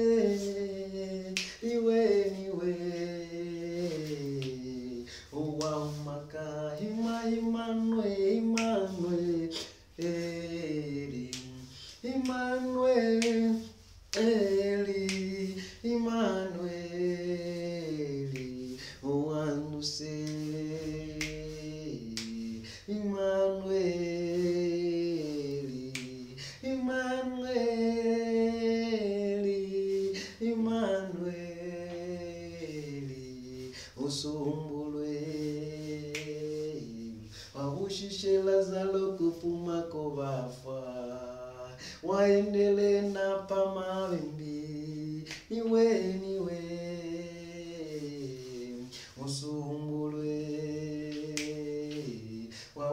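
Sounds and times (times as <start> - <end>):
man singing unaccompanied: 0.0 - 52.9.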